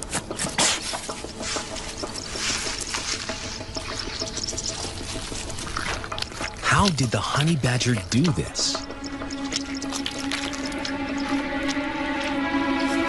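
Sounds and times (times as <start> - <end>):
animal chewing and crunching: 0.0 - 13.0
faint background music: 0.0 - 13.0.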